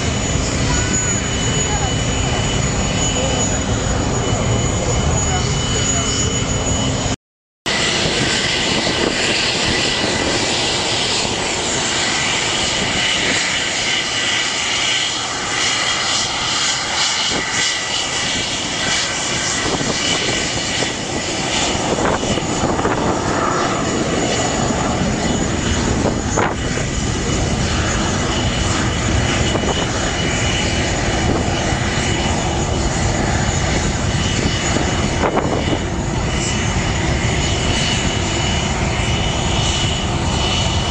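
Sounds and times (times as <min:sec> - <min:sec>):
jet engines roaring with high whine: 0:00.0 - 0:40.9.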